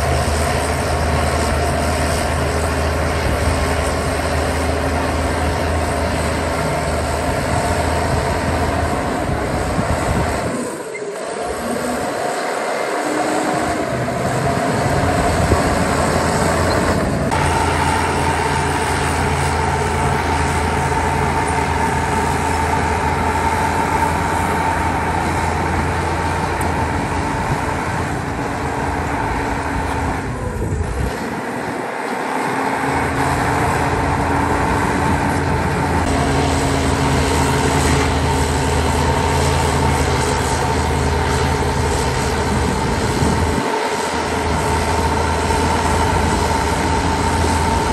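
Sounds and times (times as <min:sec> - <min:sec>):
heavy diesel engine rumbling: 0:00.0 - 0:47.9
steady whine: 0:00.0 - 0:47.9.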